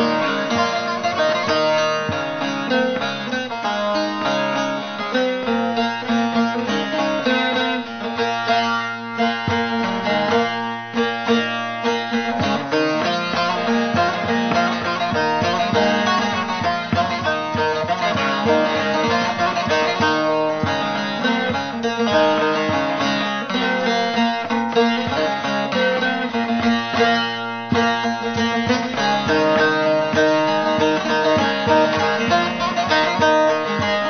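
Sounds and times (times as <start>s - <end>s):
plucked long-necked lute melody: 0.0s - 34.0s.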